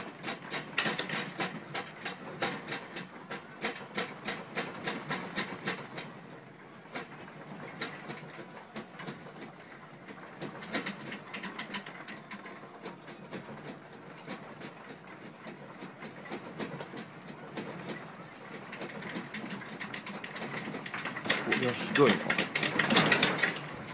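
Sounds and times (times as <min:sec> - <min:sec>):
objects rattling on metal shelving: 0:00.0 - 0:06.1, 0:06.9 - 0:23.9.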